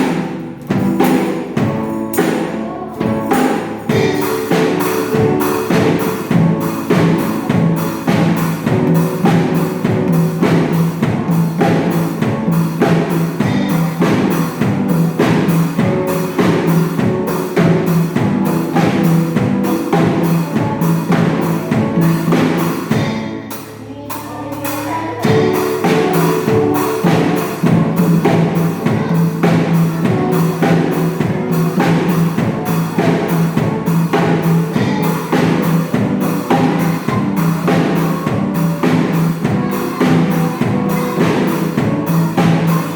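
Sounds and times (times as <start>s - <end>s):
band playing instrumental pop: 0.0s - 42.9s
steady drum beat: 0.0s - 42.9s.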